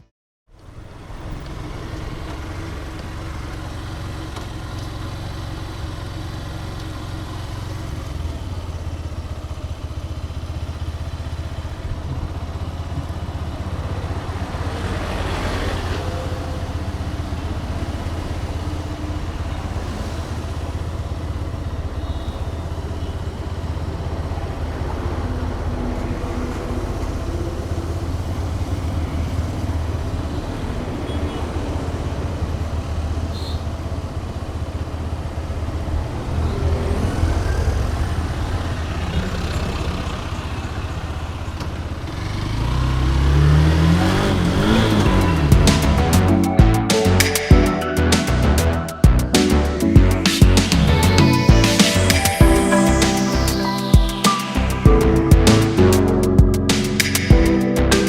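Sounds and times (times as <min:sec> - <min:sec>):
road noise: 0:00.0 - 0:58.0
motorcycle engine humming: 0:00.5 - 0:58.0.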